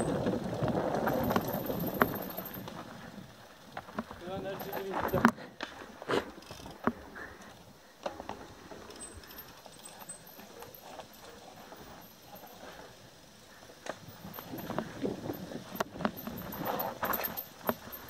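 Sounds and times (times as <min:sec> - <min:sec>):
bike knocking and rattling: 0:00.0 - 0:18.0
bike tyres on dirt and stones: 0:00.0 - 0:18.0.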